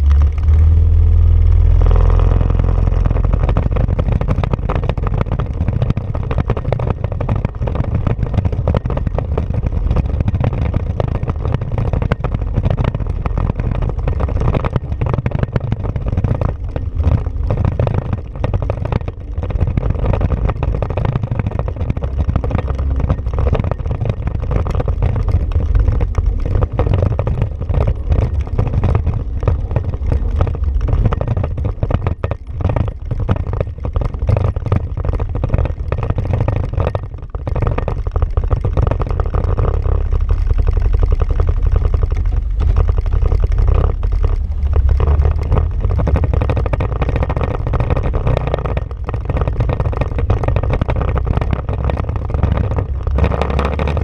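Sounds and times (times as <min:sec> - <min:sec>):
engine rumbling on rough trail: 0:00.0 - 0:54.0
knocks and rattles from bumps: 0:02.2 - 0:54.0.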